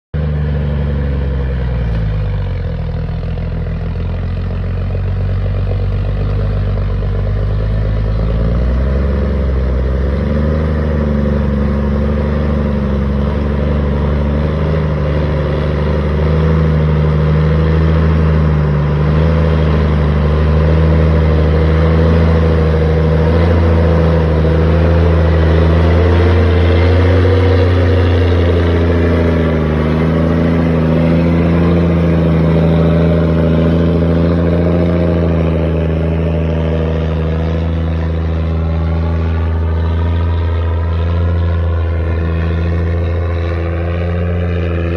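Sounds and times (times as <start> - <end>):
truck diesel engine climbing: 0.1 - 44.9.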